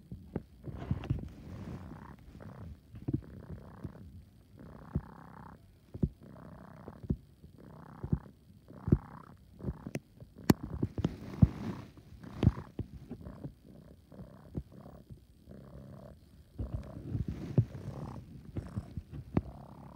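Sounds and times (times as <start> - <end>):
kitten purring loudly: 0.0 - 19.9.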